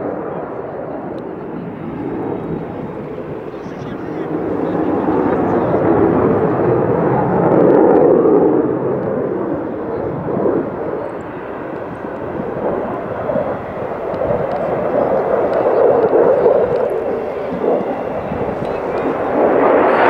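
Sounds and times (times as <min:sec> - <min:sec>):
airplane flying over: 0:00.0 - 0:20.0.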